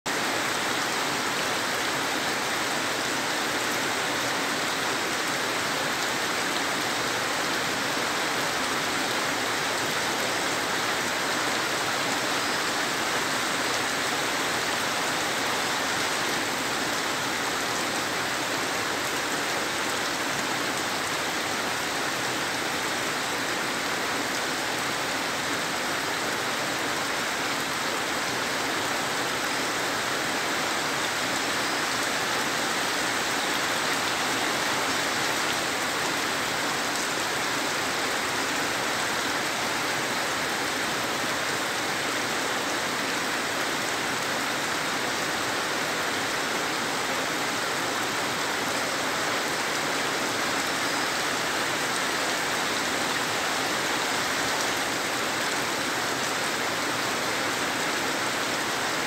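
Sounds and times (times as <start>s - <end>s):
heavy rain on leaves: 0.1s - 59.0s.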